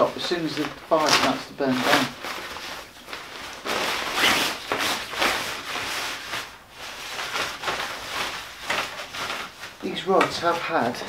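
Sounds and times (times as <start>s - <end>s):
cloth bag rustling: 0.0s - 11.0s.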